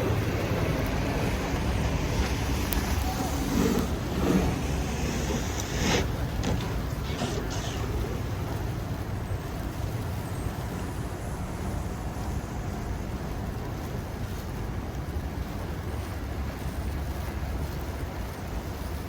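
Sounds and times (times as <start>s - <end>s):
blizzard wind buffeting microphone: 0.0s - 18.6s
city street noise hum: 0.0s - 19.0s.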